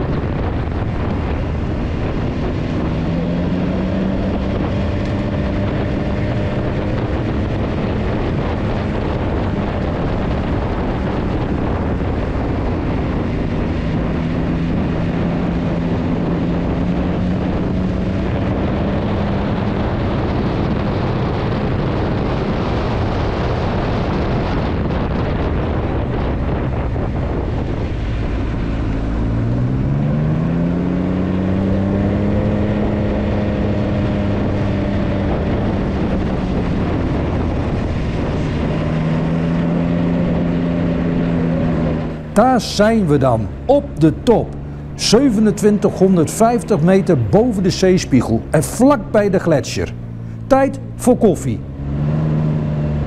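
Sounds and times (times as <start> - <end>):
motorcycle engine revving: 0.0 - 20.6, 27.7 - 53.0
wind noise on microphone: 0.0 - 51.0.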